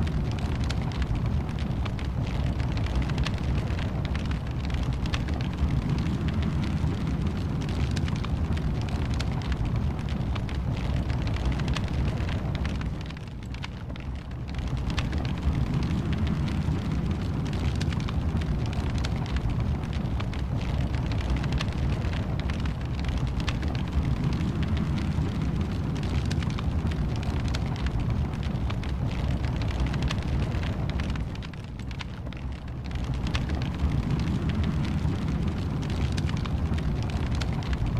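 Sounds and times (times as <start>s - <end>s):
wood fire crackling and popping: 0.0s - 37.9s.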